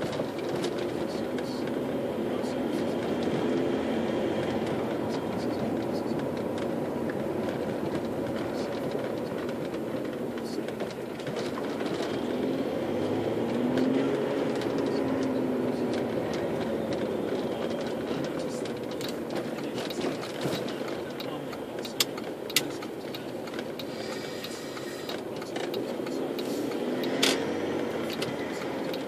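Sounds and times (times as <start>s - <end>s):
diesel car engine: 0.0s - 29.0s.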